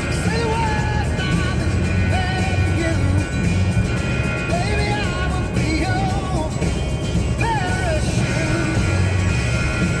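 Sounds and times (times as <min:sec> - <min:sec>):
music from car radio: 0:00.0 - 0:10.0.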